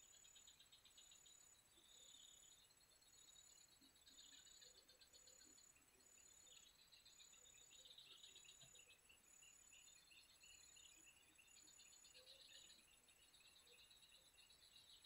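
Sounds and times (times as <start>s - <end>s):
pulsing insect chirr: 0.0s - 15.0s.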